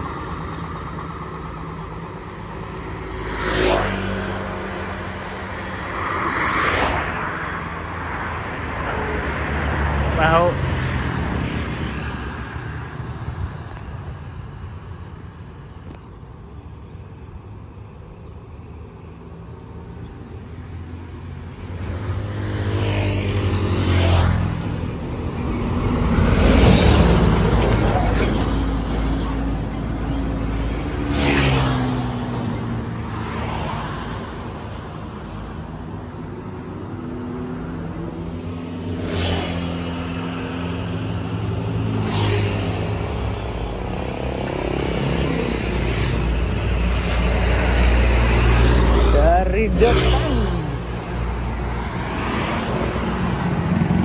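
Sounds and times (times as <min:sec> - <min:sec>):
motorcycles passing: 0:00.0 - 0:54.0
vehicles passing by: 0:00.0 - 0:54.0.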